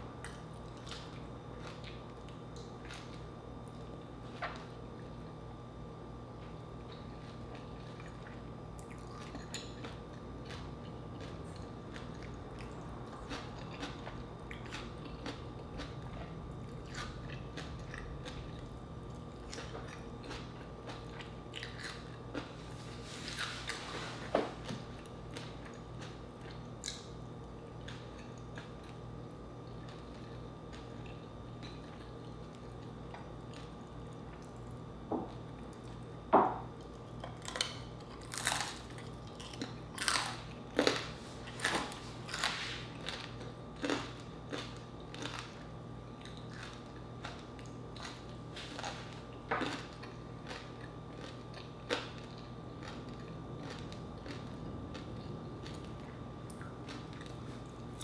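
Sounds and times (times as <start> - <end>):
faint steady hum: 0.0 - 58.0
crunchy chewing and biting: 0.1 - 5.2, 6.4 - 58.0.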